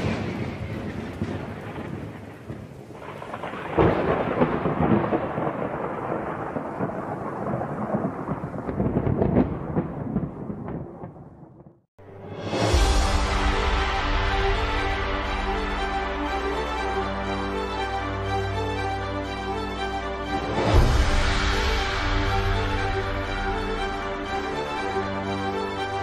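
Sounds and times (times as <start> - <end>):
rain: 0.0 - 11.7, 12.3 - 26.0
thunder rumbling: 0.0 - 11.8, 12.5 - 26.0.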